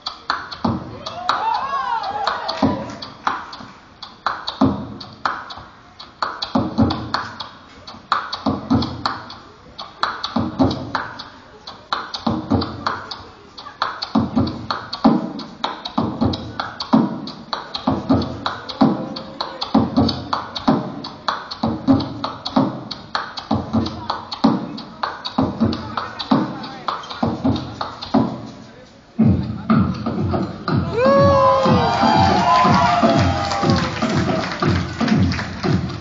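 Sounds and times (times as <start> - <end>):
beatboxing through a speaker: 0.0 - 36.0.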